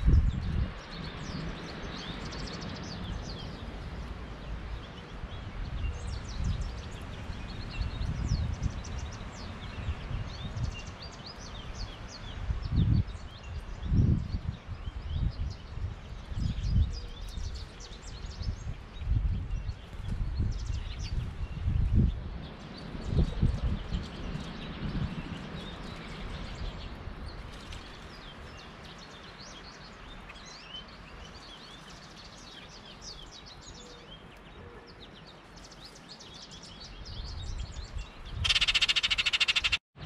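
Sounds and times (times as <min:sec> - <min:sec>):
songbirds chirping: 0:00.0 - 0:39.8
wind rumbling on microphone: 0:00.0 - 0:40.0.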